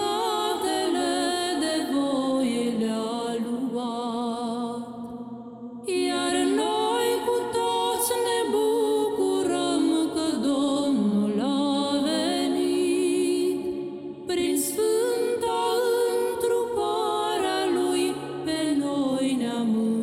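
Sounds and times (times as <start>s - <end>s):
voices singing a carol: 0.0s - 5.0s, 5.8s - 20.0s
music: 0.0s - 20.0s.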